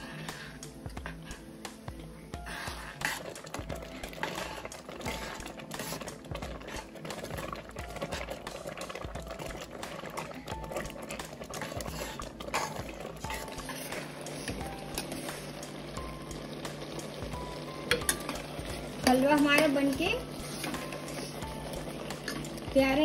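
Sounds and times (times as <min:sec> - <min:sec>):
spoon stirring and scraping pan: 0:00.0 - 0:23.0
thick mixture bubbling and popping: 0:00.0 - 0:23.0.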